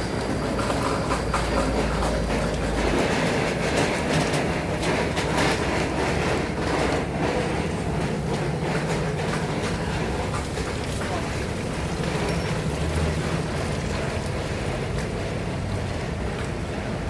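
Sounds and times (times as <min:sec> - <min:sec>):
passing traffic: 0:00.0 - 0:17.0
rain: 0:00.0 - 0:17.0.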